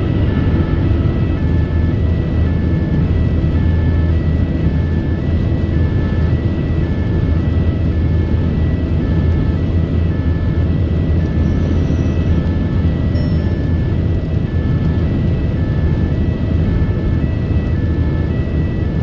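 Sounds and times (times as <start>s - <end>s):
two-tone ambulance siren: 0.0s - 19.0s
vehicle engine and tyre rumble: 0.0s - 19.0s.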